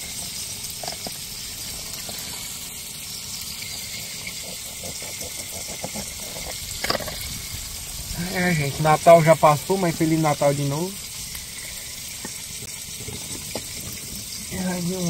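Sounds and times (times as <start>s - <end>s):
fish sizzling in hot oil: 0.0s - 15.0s
oil popping and crackling: 0.0s - 15.0s.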